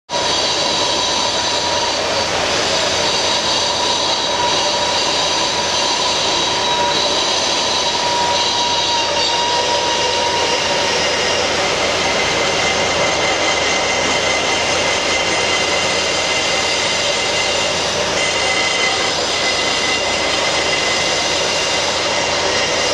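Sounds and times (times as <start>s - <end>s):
steel bar scraping spinning stone: 0.2s - 22.9s.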